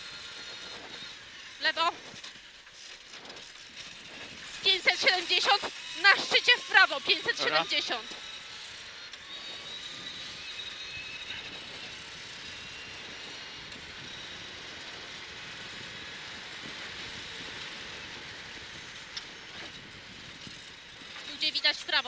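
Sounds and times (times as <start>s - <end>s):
car engine and gravel road noise: 0.0s - 22.0s
faint high whine: 3.8s - 22.0s.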